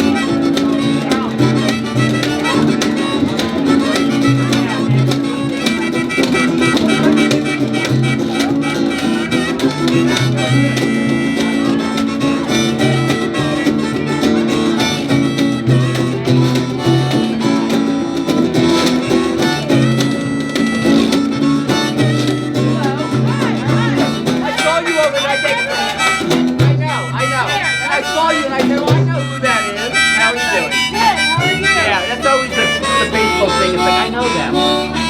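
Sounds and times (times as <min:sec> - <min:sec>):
guitar: 0:00.0 - 0:35.0
harmonica: 0:00.0 - 0:35.0
plucked washtub bass: 0:00.0 - 0:35.0.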